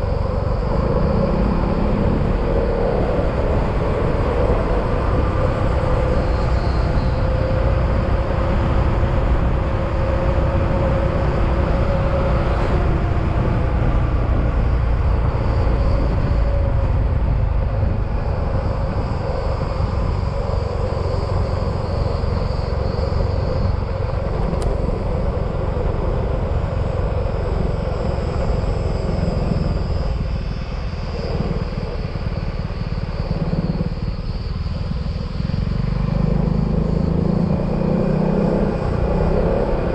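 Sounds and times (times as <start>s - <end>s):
scooter engine drone: 0.0s - 39.9s
wind rush: 0.0s - 39.9s.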